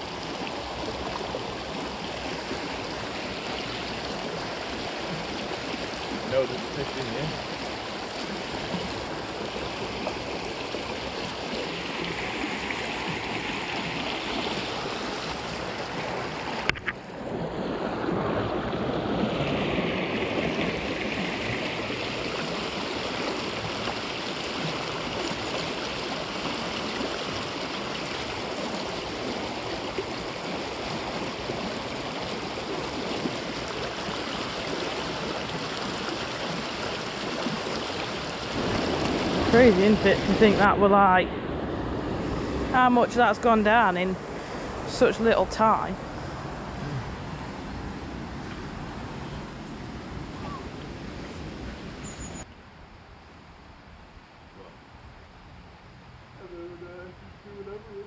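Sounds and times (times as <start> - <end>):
stream running over gravel: 0.0 - 52.5.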